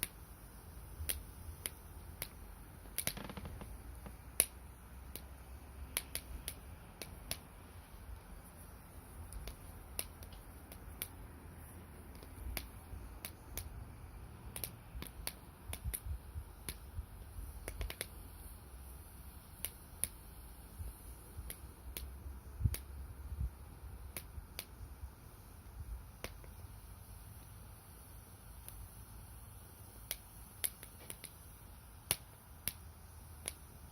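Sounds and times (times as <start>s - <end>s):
firewood crackling and popping: 0.0s - 28.9s, 29.9s - 33.9s
low rumble of stove: 0.0s - 33.9s.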